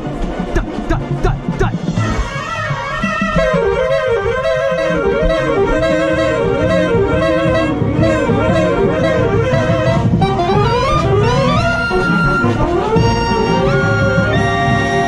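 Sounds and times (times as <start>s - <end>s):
marching band and drums: 0.0s - 15.0s
soprano saxophone playing: 1.9s - 15.0s.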